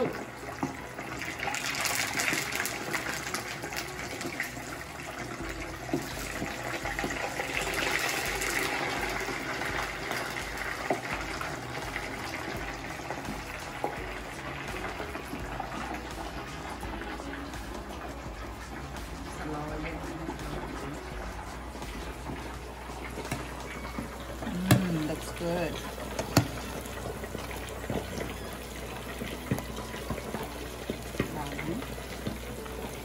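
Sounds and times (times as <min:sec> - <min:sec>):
oil sizzling in skillet: 0:00.0 - 0:33.0.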